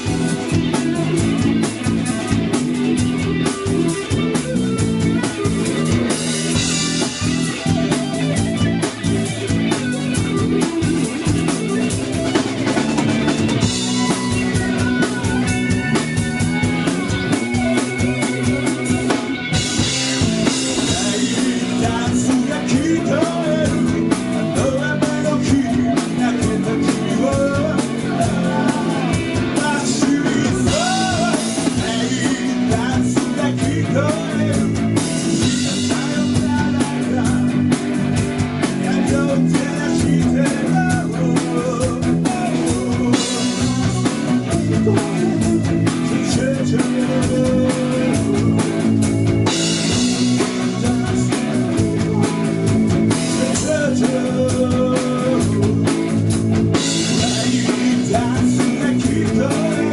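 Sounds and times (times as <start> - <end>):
bending electric guitar lines: 0.0 - 59.9
live rock band playing: 0.0 - 59.9.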